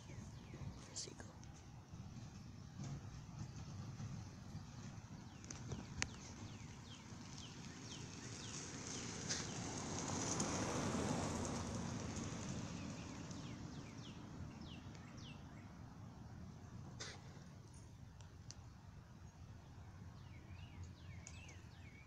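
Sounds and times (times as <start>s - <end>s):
birds chirping: 0.0s - 9.8s, 12.2s - 22.0s
vehicle passing: 0.0s - 17.7s.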